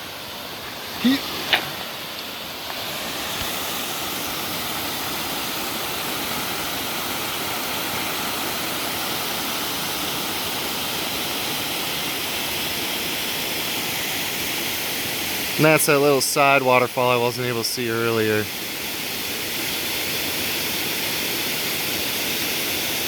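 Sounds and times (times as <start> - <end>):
waterfall rushing into creek: 0.0 - 23.0.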